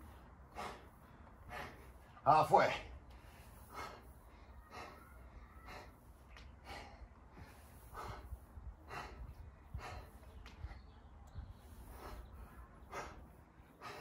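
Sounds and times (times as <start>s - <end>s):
man breathing hard: 0.0s - 2.2s, 2.8s - 14.0s.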